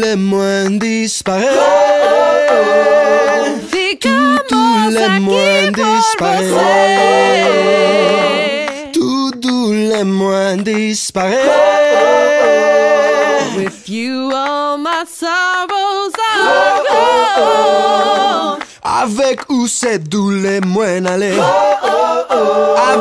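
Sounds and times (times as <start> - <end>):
voices singing with vibrato: 0.0 - 19.0, 21.1 - 23.0.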